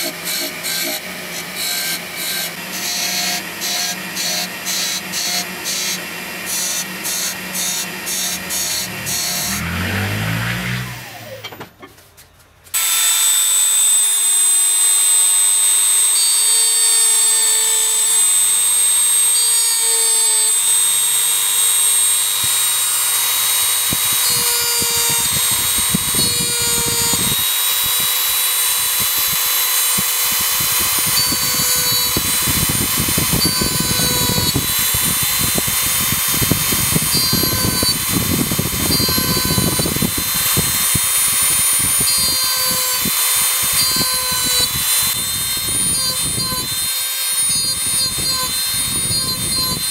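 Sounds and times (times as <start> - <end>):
rotary tool high whine: 0.0 - 11.6, 12.7 - 49.9
rotary tool grinding wood: 0.0 - 11.9, 12.7 - 49.9.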